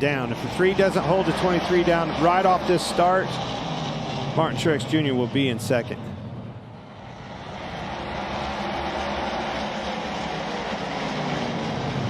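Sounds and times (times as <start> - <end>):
race car engines at full throttle: 0.0 - 12.0.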